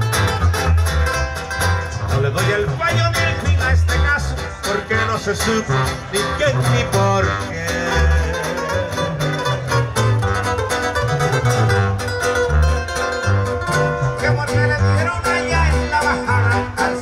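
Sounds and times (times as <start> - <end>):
deep bass line: 0.0 - 17.0
live band over sound system: 0.0 - 17.0
plucked strings melody: 0.0 - 17.0.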